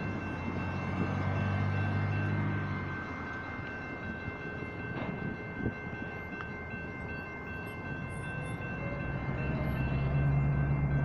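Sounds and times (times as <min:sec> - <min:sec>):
crossing signal bell ringing: 0:00.0 - 0:11.0
train engine rumble: 0:00.0 - 0:11.0.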